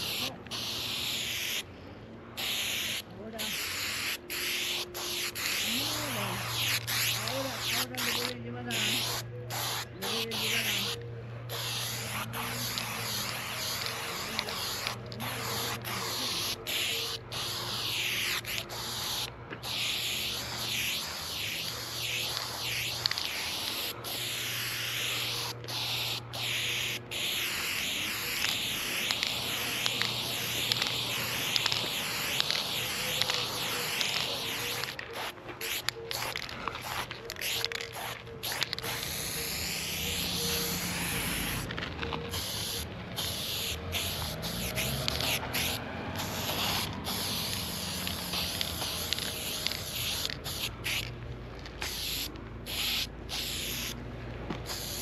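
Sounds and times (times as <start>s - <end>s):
spray paint can hissing: 0.0s - 1.7s, 2.4s - 54.0s, 54.6s - 55.0s.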